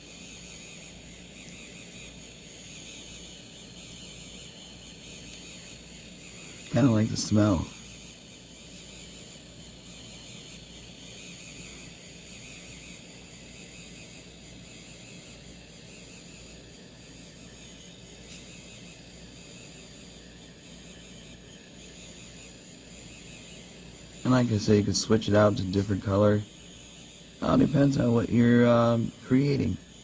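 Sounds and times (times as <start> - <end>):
small motor humming with hiss: 0.0 - 30.0.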